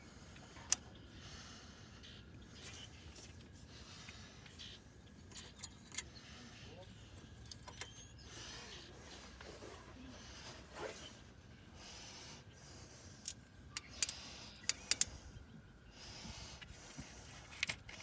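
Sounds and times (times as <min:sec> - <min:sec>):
soft rustling of parts: 0:02.2 - 0:11.7, 0:12.6 - 0:18.0.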